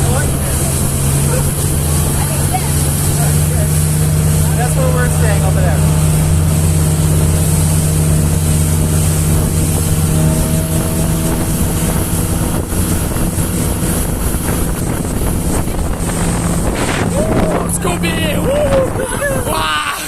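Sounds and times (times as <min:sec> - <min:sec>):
motorboat engine droning: 0:00.0 - 0:20.0.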